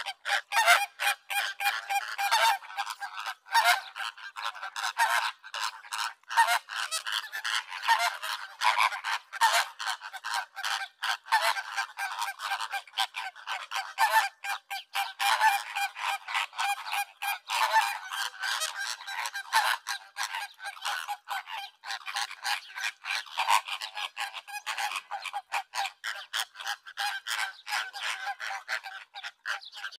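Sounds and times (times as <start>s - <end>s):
flamingos honking: 0.0s - 30.0s.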